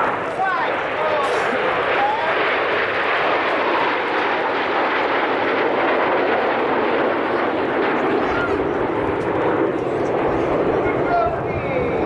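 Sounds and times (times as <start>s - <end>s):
jets passing overhead: 0.0s - 12.0s.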